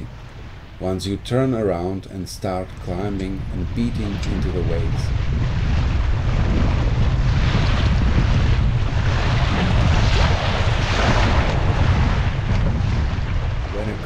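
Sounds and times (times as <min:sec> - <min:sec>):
waves splashing against hull: 0:00.0 - 0:14.0
wind buffeting microphone: 0:00.0 - 0:14.0.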